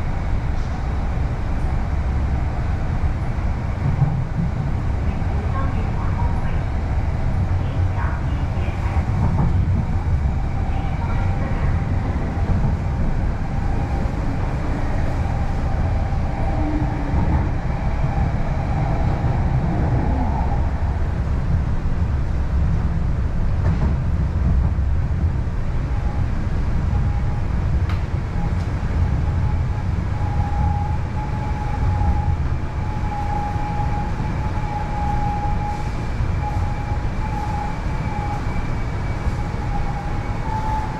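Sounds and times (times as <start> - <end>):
train rumbling on track: 0.0 - 40.9.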